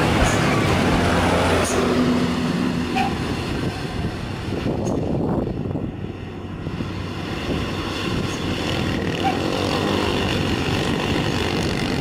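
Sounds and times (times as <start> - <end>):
motorbikes: 0.0 - 12.0
truck diesel engines droning: 0.0 - 12.0
truck passing close by: 0.0 - 12.0.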